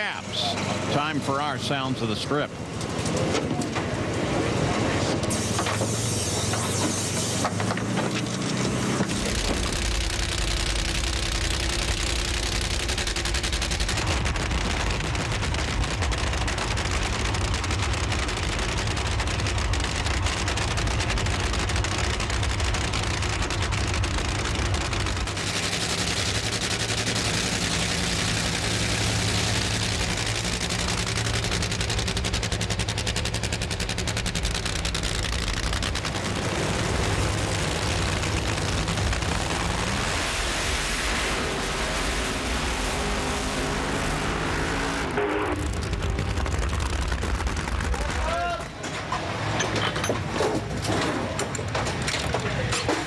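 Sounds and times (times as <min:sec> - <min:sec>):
drag racing engine crackling: 0:00.0 - 0:53.0.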